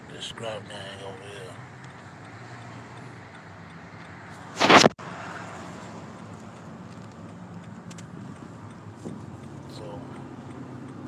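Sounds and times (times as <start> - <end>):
car engine and road hum: 0.0 - 11.0.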